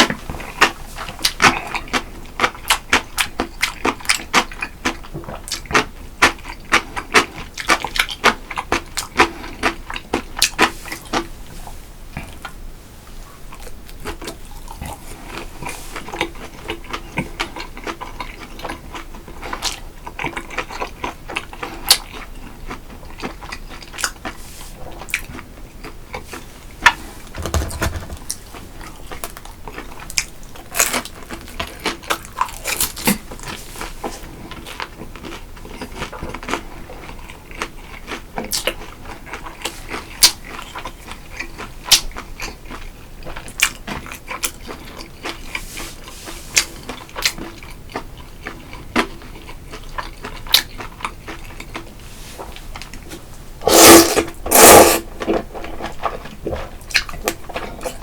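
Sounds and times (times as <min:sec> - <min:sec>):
man chewing and biting food: 0:00.0 - 0:11.3, 0:13.2 - 0:58.0.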